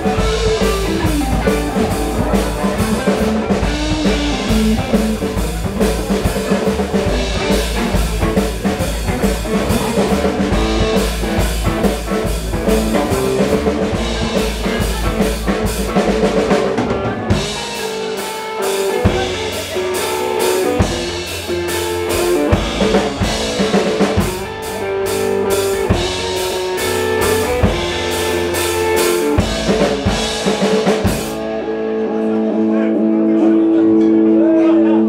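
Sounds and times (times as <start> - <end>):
drum kit: 0.0 - 32.3
electric guitars: 0.0 - 35.0.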